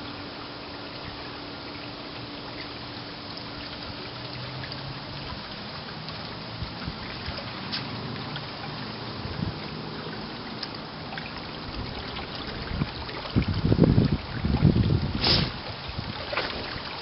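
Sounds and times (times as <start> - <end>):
pool water trickling: 0.0 - 17.0.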